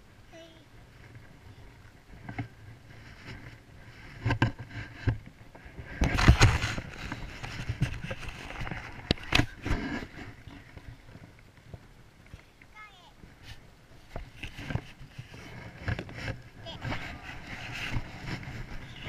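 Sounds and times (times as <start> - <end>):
rubbing and rustling: 0.9 - 11.4, 13.3 - 19.0.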